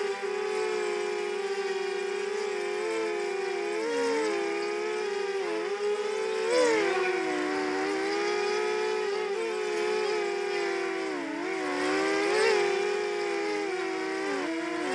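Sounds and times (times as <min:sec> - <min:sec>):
drone propellers whining: 0:00.0 - 0:14.9.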